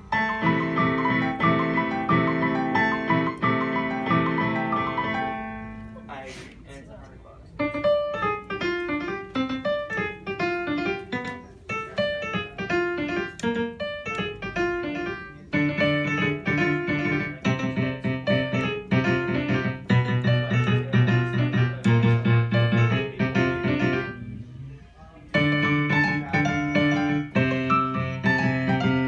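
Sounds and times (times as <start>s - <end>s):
piano music: 0.0s - 6.3s, 7.6s - 24.6s, 25.3s - 29.0s.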